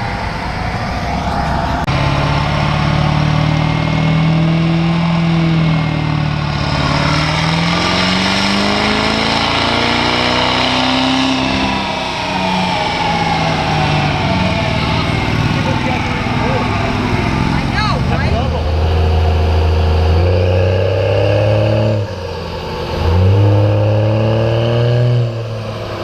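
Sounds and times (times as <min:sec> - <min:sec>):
diesel truck engine revving: 0:00.0 - 0:26.0
high-pitched whine: 0:00.0 - 0:26.0.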